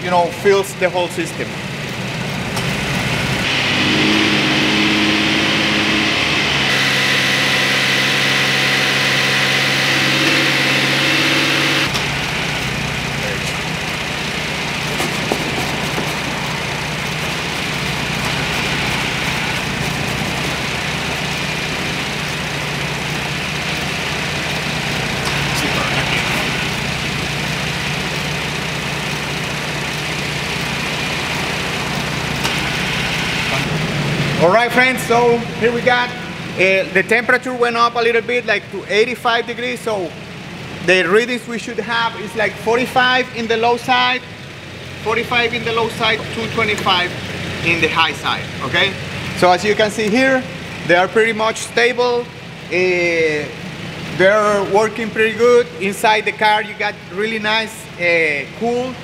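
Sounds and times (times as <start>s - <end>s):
car engine revving: 1.3s - 59.0s.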